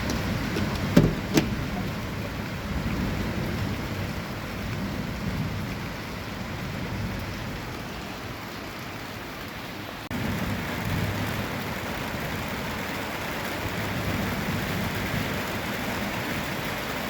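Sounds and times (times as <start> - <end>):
heavy rain splashing: 0.0 - 17.0.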